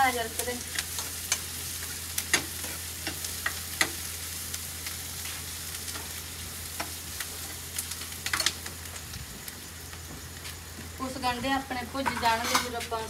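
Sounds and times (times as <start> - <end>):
onions sizzling in pan: 0.0 - 13.0.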